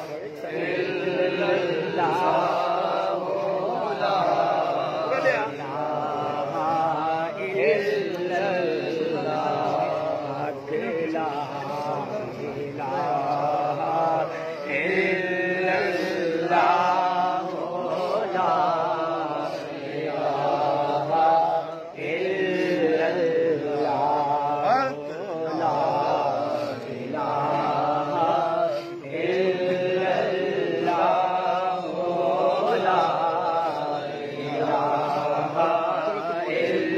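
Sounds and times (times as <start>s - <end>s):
man chanting: 0.0s - 36.9s.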